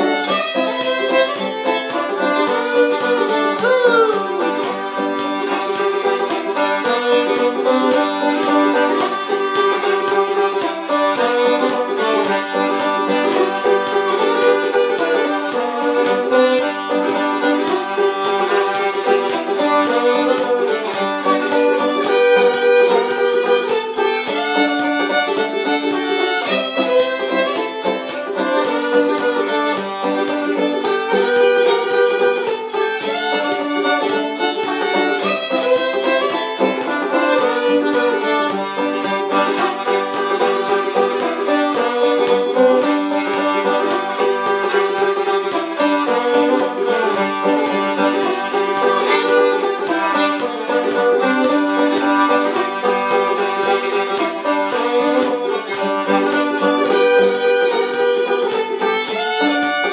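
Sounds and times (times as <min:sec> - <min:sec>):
banjo playing: 0:00.0 - 0:59.9
fiddle playing: 0:00.0 - 0:59.9.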